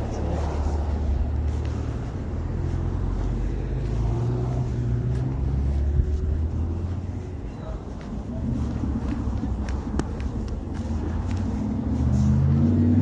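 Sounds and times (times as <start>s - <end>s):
car engine rumbling: 0.0s - 13.0s
road noise: 0.0s - 13.0s.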